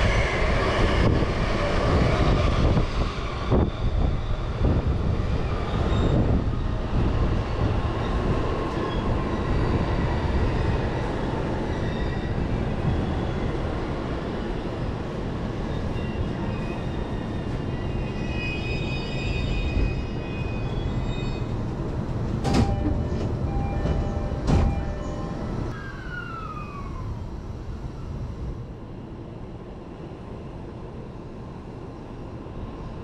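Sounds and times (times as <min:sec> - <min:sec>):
passing train rush: 0:00.0 - 0:33.0
train wheels rumbling on rail: 0:00.0 - 0:33.0.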